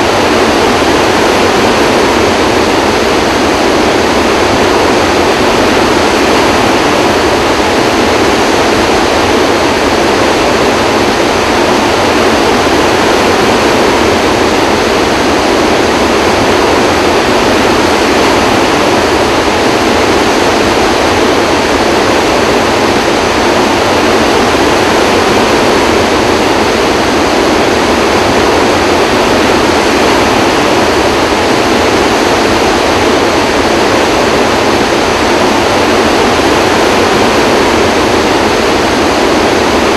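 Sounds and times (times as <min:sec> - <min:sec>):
loud roar of rushing water: 0:00.0 - 0:39.9.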